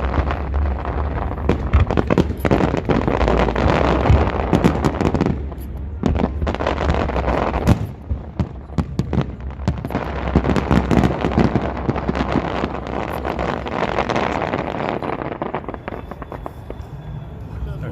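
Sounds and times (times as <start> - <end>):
continuous low rumble: 0.0 - 17.9
fireworks bangs and crackles: 0.0 - 17.9.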